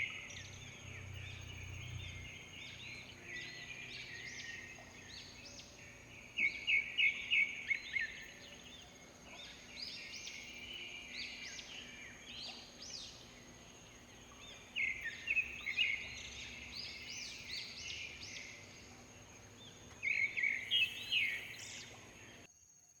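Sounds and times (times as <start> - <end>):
birds singing: 0.0 - 22.5.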